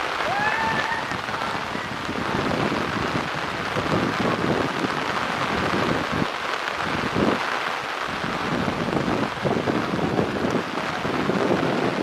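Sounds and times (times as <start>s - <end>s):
heavy rain on water: 0.0s - 12.0s
wind gusts rumbling: 0.0s - 12.0s.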